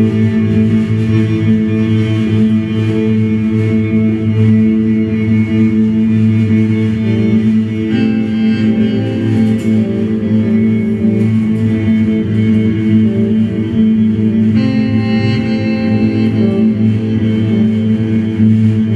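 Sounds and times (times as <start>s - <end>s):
droning guitar bass and drums: 0.0s - 18.9s.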